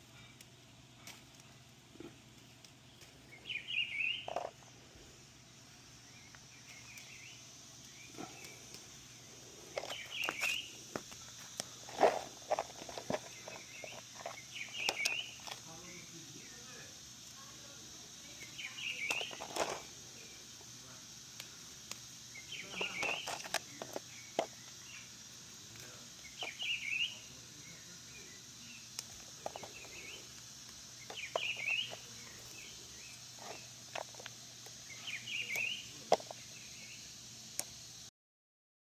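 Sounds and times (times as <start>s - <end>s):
steady high hiss: 0.0s - 38.1s
songbird chirping: 2.7s - 20.6s, 22.2s - 37.4s.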